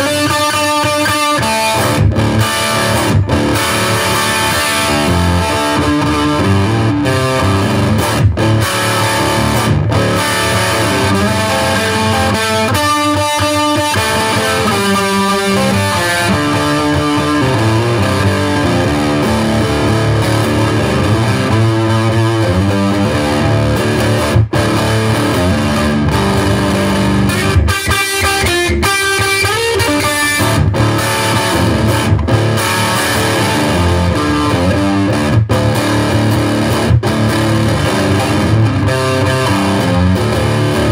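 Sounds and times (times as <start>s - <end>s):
blues electric guitar riff: 0.0s - 40.9s.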